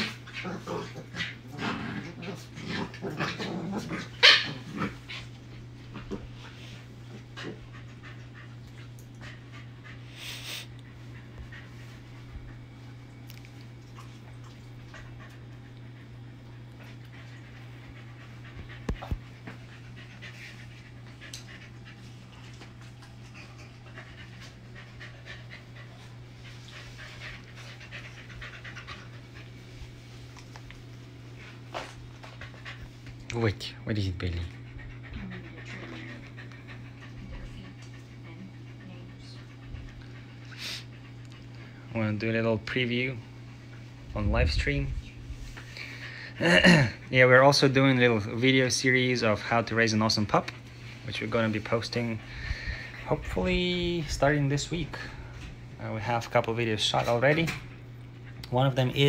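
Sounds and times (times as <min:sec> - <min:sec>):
steady low hum: 0:00.0 - 0:59.0
puppies panting: 0:04.9 - 0:44.5, 0:45.3 - 0:59.0.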